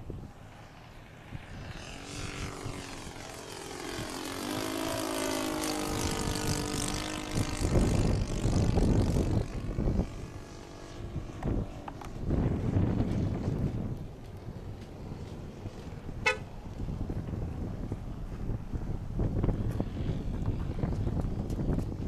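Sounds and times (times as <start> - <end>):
model plane engine passing: 0.0 - 22.0
wind buffeting microphone: 0.0 - 22.0.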